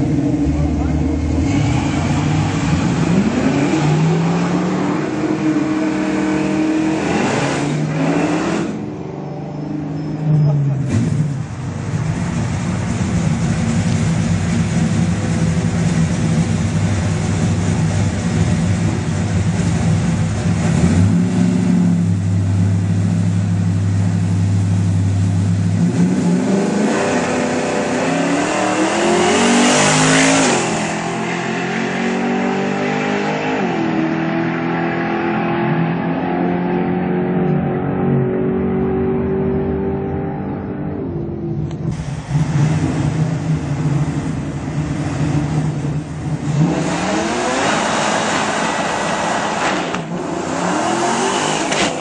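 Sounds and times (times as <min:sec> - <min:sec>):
drag car engine revving: 0:00.0 - 0:52.0.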